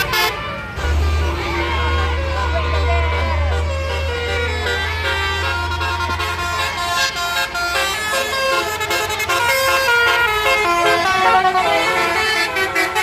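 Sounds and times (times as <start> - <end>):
musical bus horn tune: 0.0 - 13.0.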